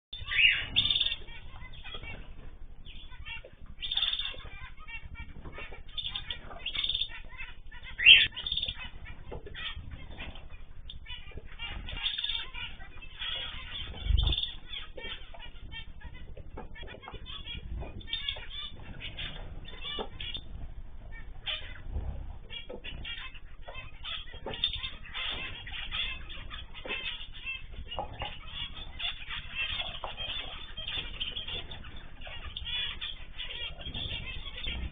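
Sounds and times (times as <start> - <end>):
cage birds chirping: 0.1 - 34.9
wing flutters: 0.2 - 34.9.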